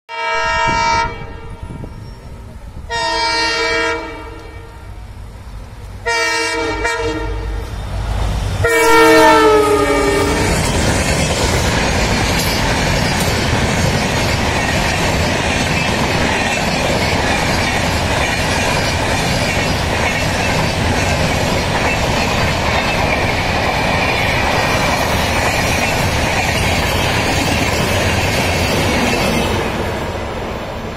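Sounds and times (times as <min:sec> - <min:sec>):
train wheels rushing on rails: 0:00.6 - 0:30.9.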